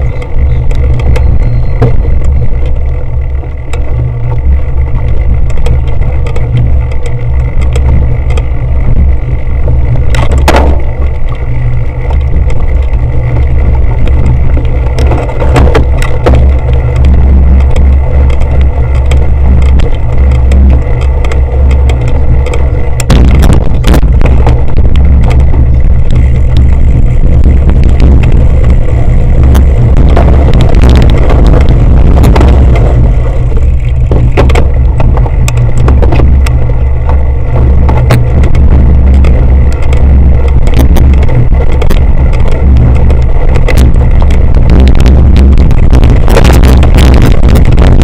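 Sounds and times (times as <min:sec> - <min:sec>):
bike knocks and rattles: 0:00.0 - 0:48.0
wind rumble on microphone: 0:00.0 - 0:48.0.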